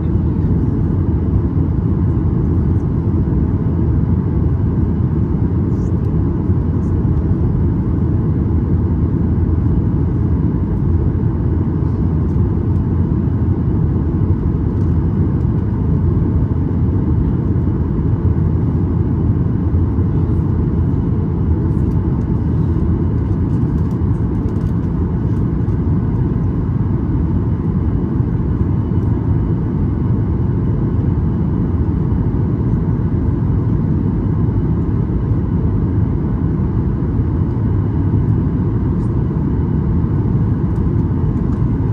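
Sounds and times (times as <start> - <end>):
airplane cabin roar in flight: 0.0 - 41.9.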